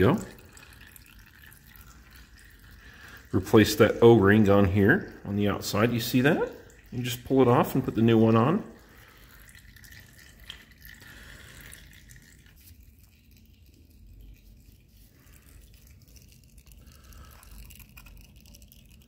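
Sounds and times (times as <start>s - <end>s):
oil trickling into pan: 0.0s - 19.0s.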